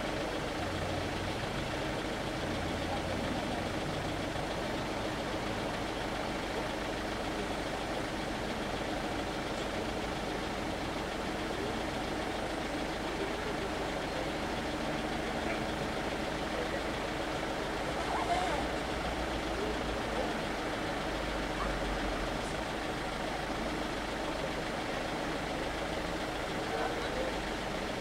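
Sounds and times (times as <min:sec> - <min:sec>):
car engines idling: 0:00.0 - 0:28.0.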